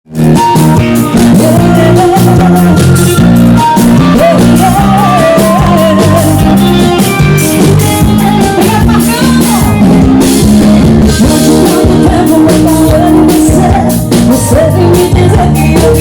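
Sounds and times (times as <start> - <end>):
gliding lead melody: 0.1 - 16.0
regular drum beat: 0.1 - 16.0
steady bass notes: 0.1 - 16.0.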